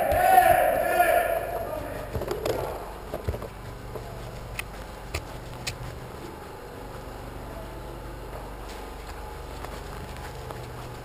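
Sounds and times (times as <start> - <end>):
footsteps on artificial turf: 0.0 - 11.0
low steady hum: 0.0 - 11.0
rustling: 0.0 - 11.0.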